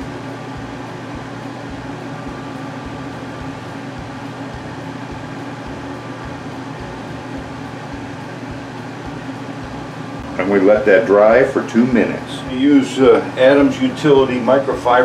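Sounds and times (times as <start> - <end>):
exhaust fan humming: 0.0 - 15.0.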